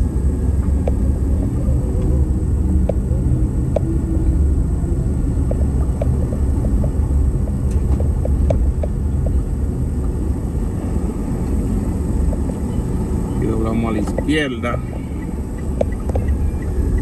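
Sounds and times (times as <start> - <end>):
vehicle rumble from on board: 0.0 - 17.0.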